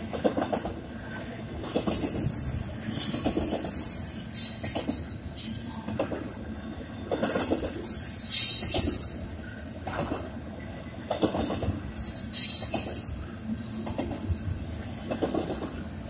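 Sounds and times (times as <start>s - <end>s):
train wheels clattering over rails: 0.0s - 0.9s, 1.5s - 10.4s, 11.0s - 15.9s.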